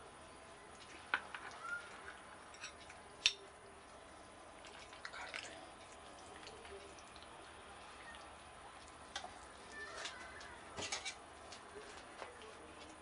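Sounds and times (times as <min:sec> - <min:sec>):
stew dripping and squishing: 0:00.1 - 0:13.0.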